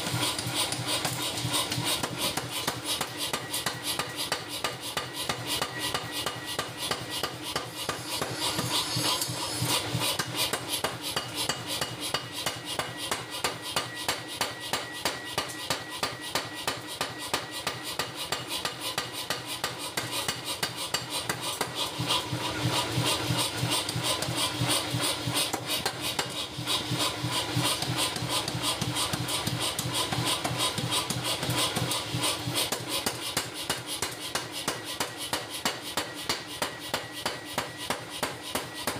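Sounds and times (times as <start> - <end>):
power hammer pounding steel: 0.0 - 38.9.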